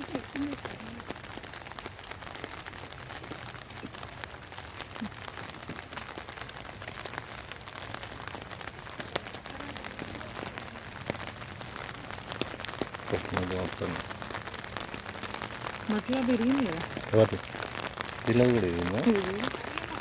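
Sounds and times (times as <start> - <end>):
rain drops on hard surface: 0.0 - 20.0.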